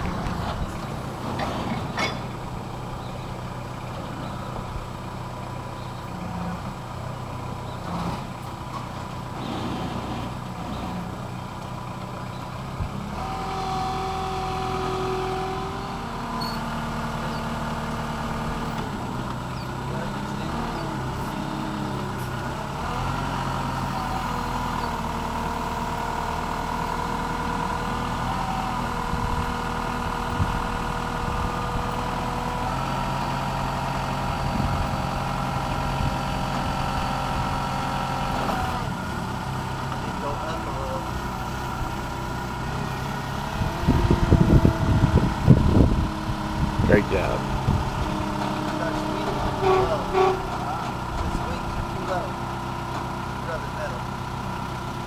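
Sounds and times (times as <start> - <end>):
forklift engine running: 0.0 - 55.0.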